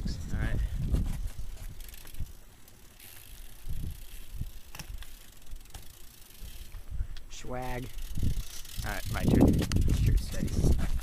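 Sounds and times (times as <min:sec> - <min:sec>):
bike tyres rolling on concrete: 0:00.1 - 0:11.0
sharp clicks from bike: 0:01.0 - 0:11.0.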